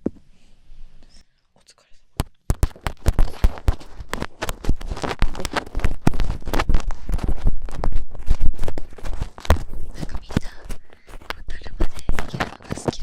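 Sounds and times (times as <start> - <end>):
scratching and rubbing: 2.2 - 13.0
soft low thumps: 2.2 - 13.0.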